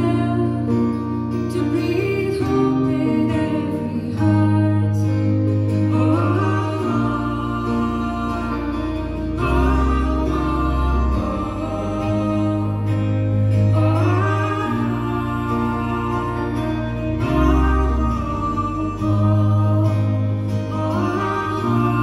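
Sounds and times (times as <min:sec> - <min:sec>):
drone notes: 0:00.0 - 0:22.0
person singing folk song: 0:00.0 - 0:22.0
plucked small guitar: 0:00.0 - 0:22.0.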